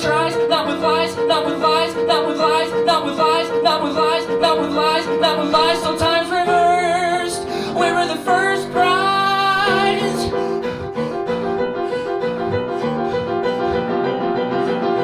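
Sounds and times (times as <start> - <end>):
piano playing repeated chords: 0.0 - 15.0.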